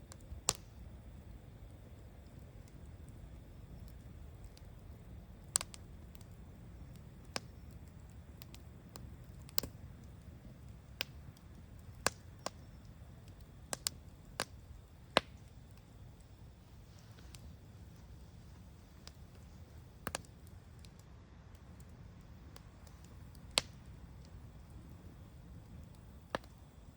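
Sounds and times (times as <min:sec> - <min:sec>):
low steady rumble: 0:00.0 - 0:26.9
wood fire crackling: 0:00.0 - 0:26.9.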